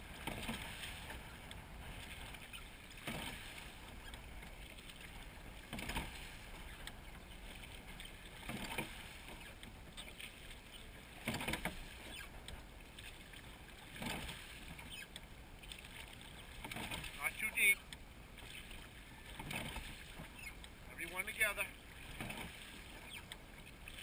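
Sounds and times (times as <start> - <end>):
oars stroking water: 0.0 - 24.0
wind: 0.0 - 24.0.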